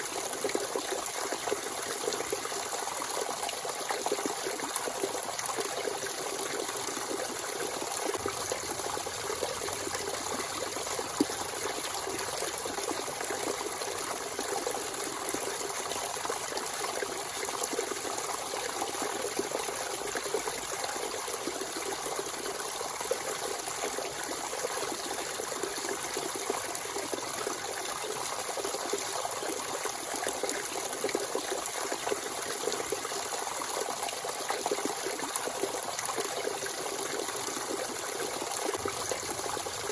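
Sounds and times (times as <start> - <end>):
spring water flowing: 0.0 - 39.9.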